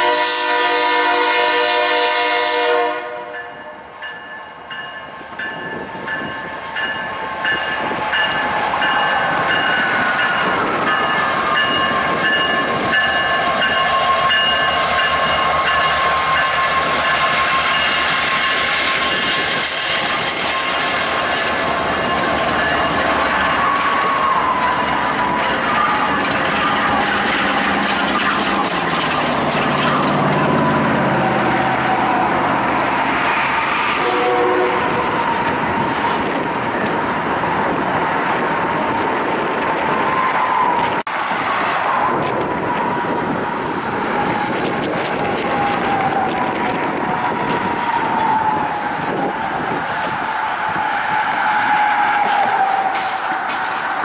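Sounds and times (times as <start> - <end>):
diesel locomotive engine droning: 0.0 - 54.0
thin whine of train wheels: 0.0 - 54.0
freight cars rumbling: 3.5 - 54.0.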